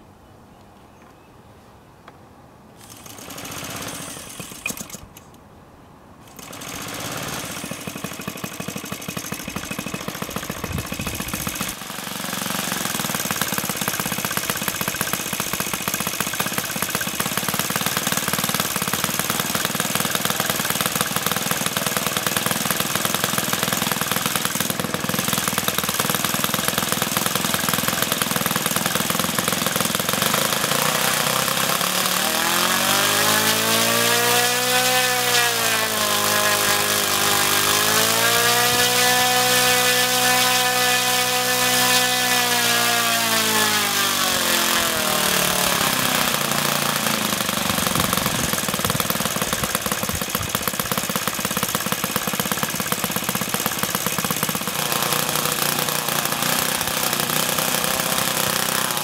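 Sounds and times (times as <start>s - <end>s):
electric starter cranking: 2.8s - 5.4s, 6.3s - 59.0s
model plane engine running: 6.3s - 59.0s.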